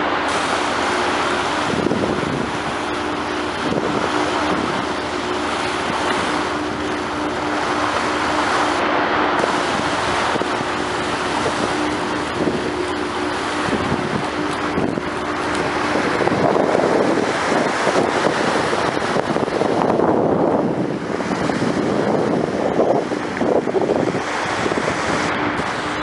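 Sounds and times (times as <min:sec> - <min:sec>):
boat engine humming: 0:00.0 - 0:26.0
water moving past hull: 0:00.0 - 0:26.0
wind on microphone: 0:00.0 - 0:26.0.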